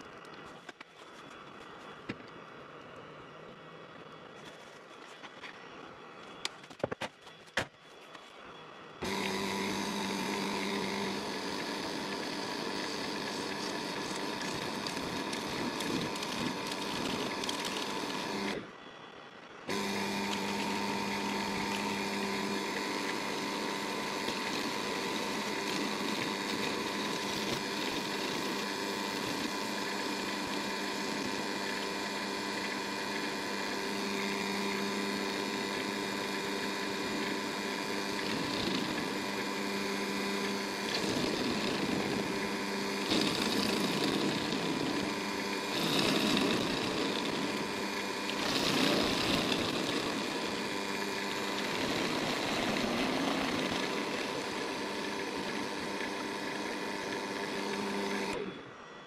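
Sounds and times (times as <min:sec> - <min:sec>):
lathe motor humming: 0:08.5 - 0:59.0
turning tool scraping wax: 0:09.0 - 0:18.6, 0:19.7 - 0:58.4.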